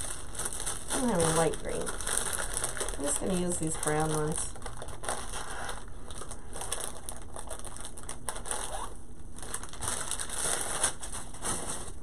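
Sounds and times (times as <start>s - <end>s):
rustling craft supplies: 0.0s - 12.0s.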